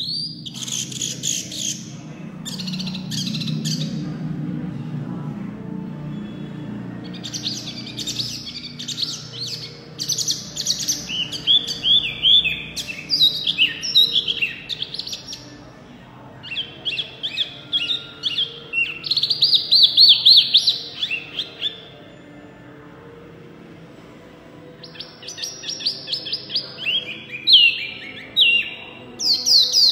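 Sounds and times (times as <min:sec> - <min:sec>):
songbird singing whistled notes: 0:00.0 - 0:04.2, 0:06.0 - 0:15.6, 0:16.4 - 0:22.2, 0:24.8 - 0:29.9.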